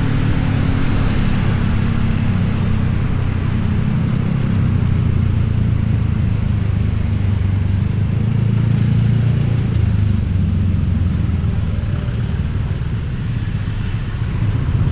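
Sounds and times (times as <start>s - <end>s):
low rumble of vehicle noise: 0.0s - 14.9s.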